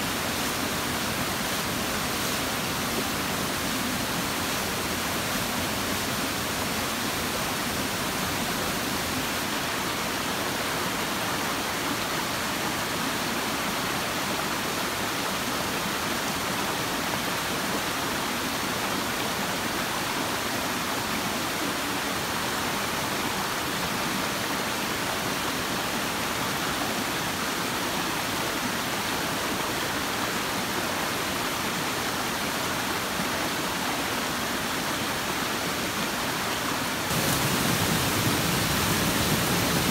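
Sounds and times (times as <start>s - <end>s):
stream water rushing over rock: 0.0s - 39.9s.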